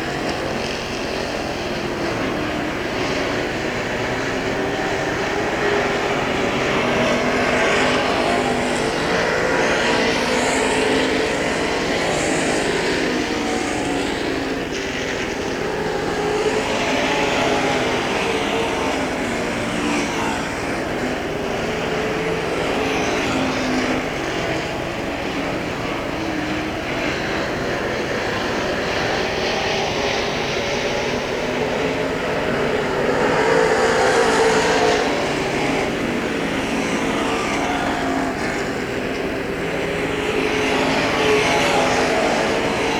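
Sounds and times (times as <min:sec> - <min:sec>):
race car engines droning: 0:00.0 - 0:42.9.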